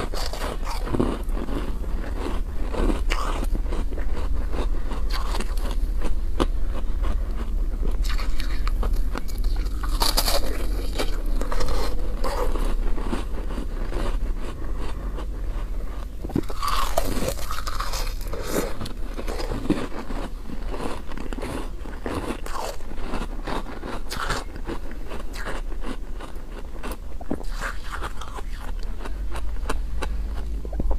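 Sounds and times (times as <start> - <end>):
chewing ice crunches: 0.0 - 30.9
steady low hum: 0.0 - 30.9.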